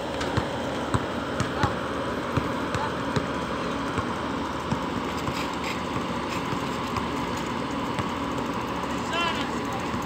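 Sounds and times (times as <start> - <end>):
basketball bouncing on concrete: 0.0 - 8.4
steady engine-like hum: 0.0 - 10.0.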